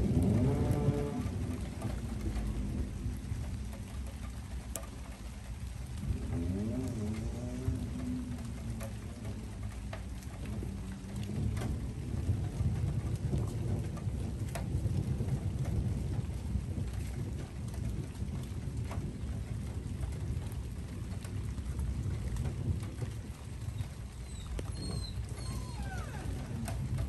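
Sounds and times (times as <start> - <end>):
sharp drip ticks: 0.0 - 27.0
steady rain: 0.0 - 27.0
thunder rumbling: 0.0 - 27.0.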